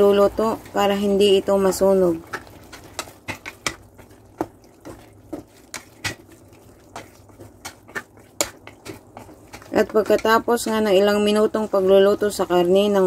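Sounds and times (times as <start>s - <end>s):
utensil stirring in a pot: 0.0s - 13.0s.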